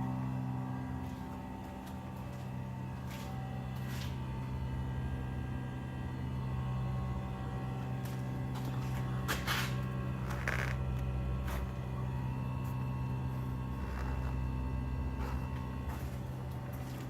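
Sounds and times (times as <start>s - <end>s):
refrigerant line humming: 0.0s - 17.0s.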